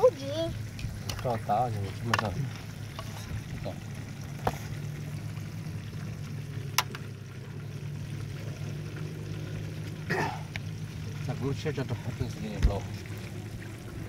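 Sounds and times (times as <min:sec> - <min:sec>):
low hum: 0:02.4 - 0:14.0.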